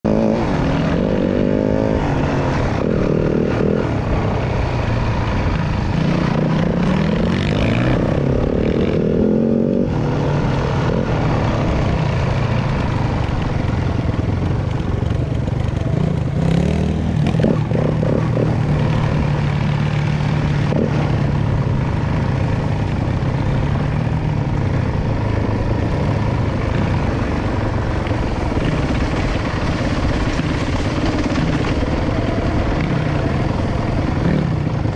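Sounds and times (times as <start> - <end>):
dirt bike engine revving: 0.1 - 13.6, 15.7 - 34.9.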